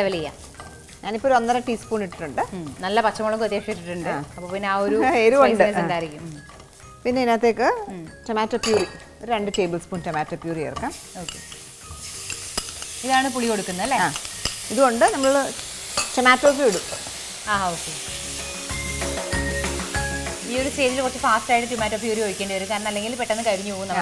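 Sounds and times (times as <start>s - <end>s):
background music with singing: 0.0s - 14.8s, 18.1s - 24.0s
masala sizzling in a wok: 0.0s - 24.0s.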